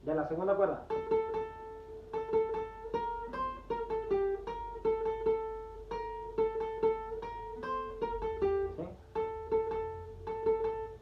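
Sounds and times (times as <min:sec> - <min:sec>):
guitar plucking a melody: 0:00.0 - 0:11.0.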